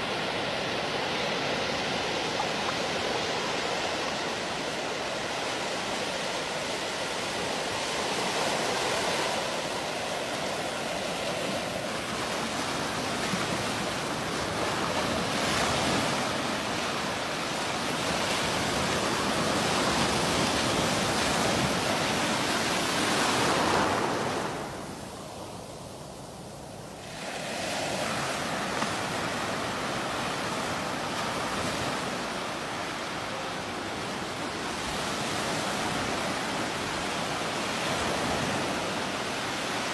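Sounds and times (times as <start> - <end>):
small waves breaking: 0.0 - 24.9, 27.0 - 39.9.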